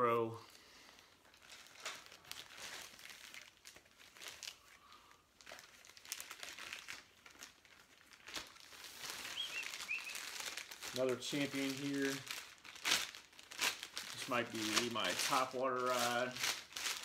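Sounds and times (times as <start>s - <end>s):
plastic sleeves crinkling: 0.7s - 17.0s.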